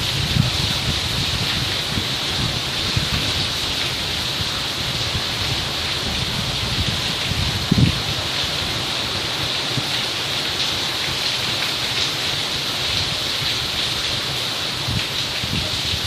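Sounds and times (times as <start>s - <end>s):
rain falling steadily: 0.0s - 16.0s.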